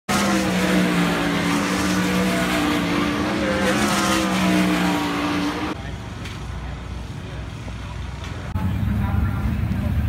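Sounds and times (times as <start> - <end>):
race car engines droning: 0.1 - 10.0.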